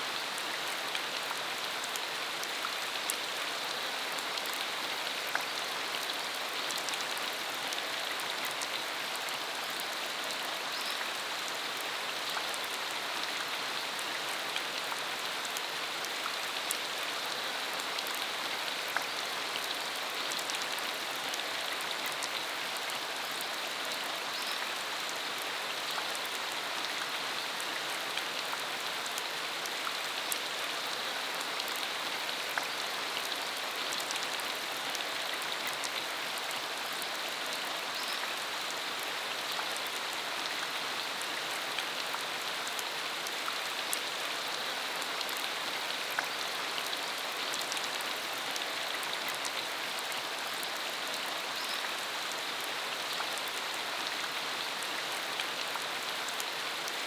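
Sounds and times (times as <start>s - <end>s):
rain falling on dirt road: 0.0s - 57.0s.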